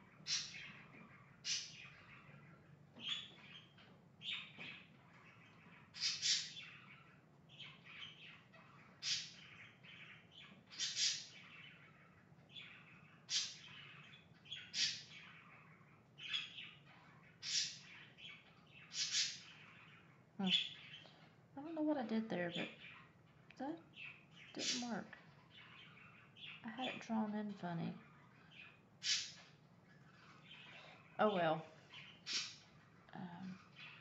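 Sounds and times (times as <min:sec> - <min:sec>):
pet birds chirping: 0:00.0 - 0:34.0.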